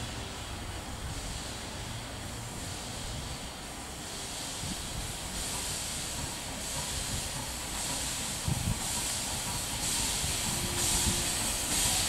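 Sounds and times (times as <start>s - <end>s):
faint steam hiss: 0.0s - 12.0s
steam train rumbling: 0.0s - 12.0s.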